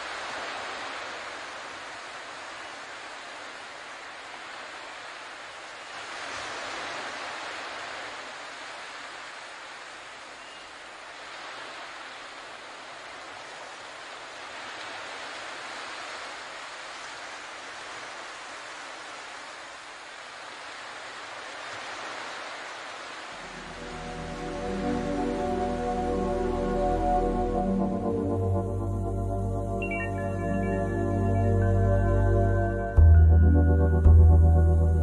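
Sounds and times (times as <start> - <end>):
ocean waves washing in: 0.0 - 35.0.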